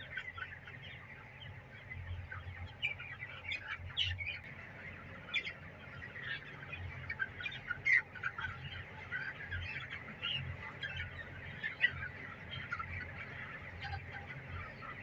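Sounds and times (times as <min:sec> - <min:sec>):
chickens chirping and peeping: 0:00.0 - 0:15.0.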